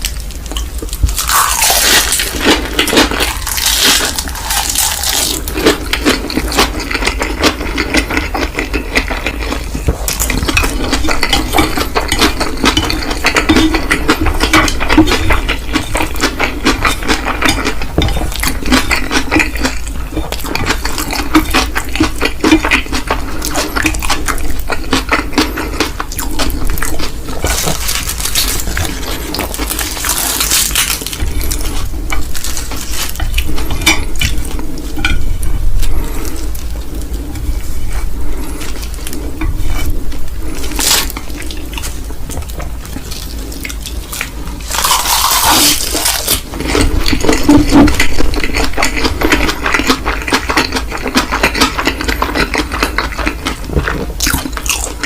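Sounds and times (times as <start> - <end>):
person chewing noodles: 0.0 - 55.0.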